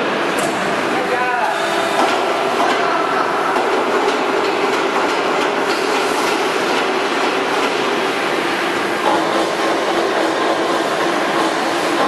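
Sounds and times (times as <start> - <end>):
loud steady machine noise: 0.0 - 12.0.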